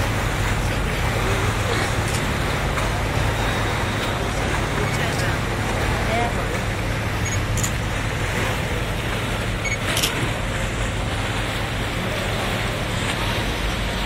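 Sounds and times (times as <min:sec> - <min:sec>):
boat engine humming: 0:00.0 - 0:14.0
water rushing: 0:00.0 - 0:14.0
wind: 0:00.0 - 0:14.0.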